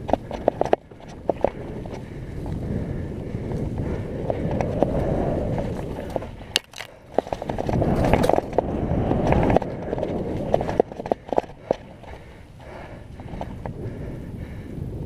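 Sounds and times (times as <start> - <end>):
bike rattling: 0.0 - 15.0
bike tyres rumbling on mud: 0.0 - 15.0.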